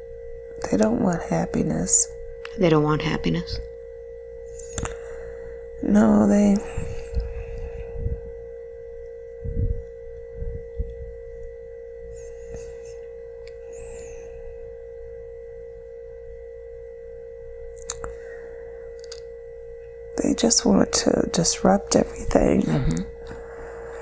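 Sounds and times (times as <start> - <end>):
steady pure tone hum: 0.0 - 24.0.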